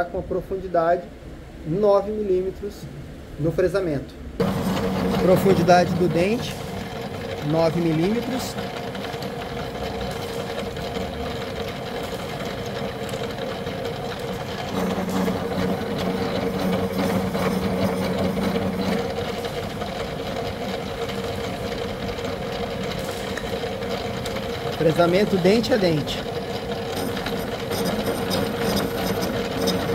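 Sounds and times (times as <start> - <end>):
cutter grinding metal: 4.4 - 29.9
milling machine hum: 4.4 - 29.9.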